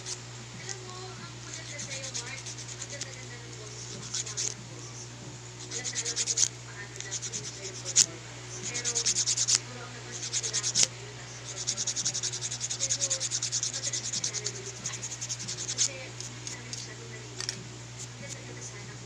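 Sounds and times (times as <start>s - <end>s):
nail file scraping toenail: 0.0s - 4.6s, 5.6s - 18.4s.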